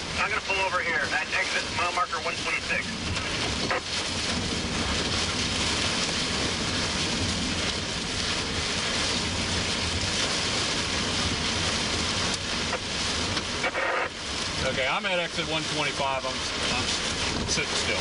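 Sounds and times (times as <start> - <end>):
heavy rain on vehicle roof: 0.0 - 18.0
low vehicle rumble: 0.0 - 18.0.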